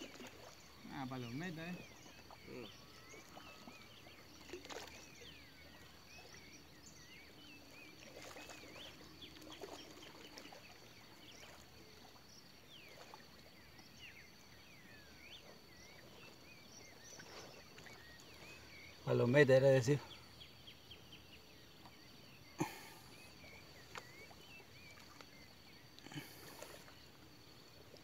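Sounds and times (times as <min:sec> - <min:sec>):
birds chirping: 0:00.0 - 0:28.0
high insect trill: 0:00.0 - 0:28.0.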